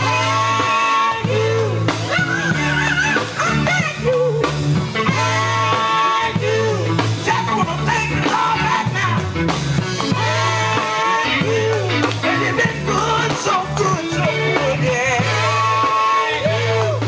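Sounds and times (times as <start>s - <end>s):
bass notes: 0.0s - 17.0s
electric guitar: 0.0s - 17.0s
vocal group singing: 0.0s - 17.0s.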